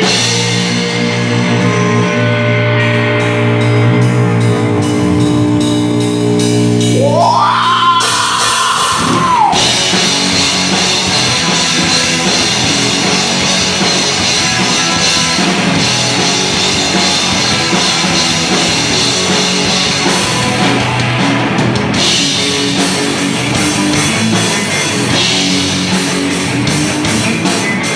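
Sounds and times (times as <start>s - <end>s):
rock music with guitar and drums: 0.0s - 27.9s.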